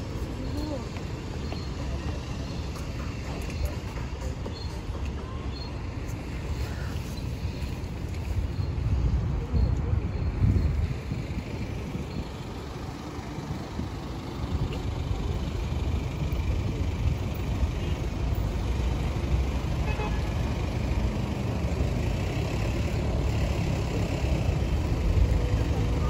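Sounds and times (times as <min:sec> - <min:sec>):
low rumble of passing cars: 0:00.0 - 0:26.0.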